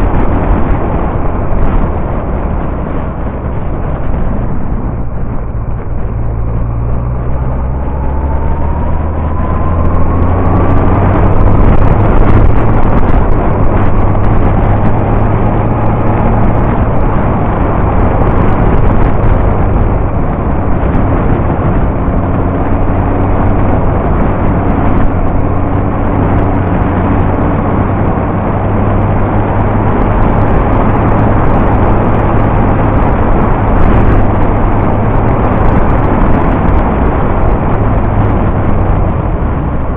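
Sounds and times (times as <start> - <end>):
motorcycle engine accelerating: 0.0 - 39.9
wind noise on microphone: 0.0 - 39.9.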